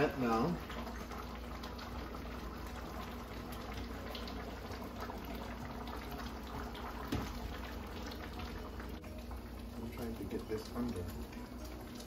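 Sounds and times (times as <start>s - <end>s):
sauce simmering in frying pan: 0.0s - 12.0s.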